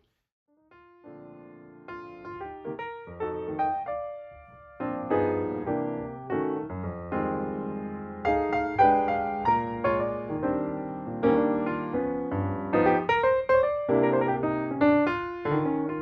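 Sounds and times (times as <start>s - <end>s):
piano music: 0.7s - 16.0s.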